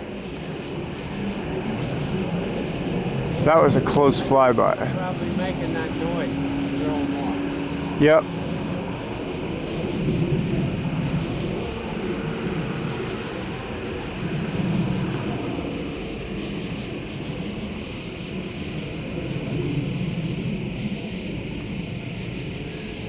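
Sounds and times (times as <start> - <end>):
aircraft engines droning overhead: 0.0 - 23.0
insects pulsing: 0.0 - 23.0.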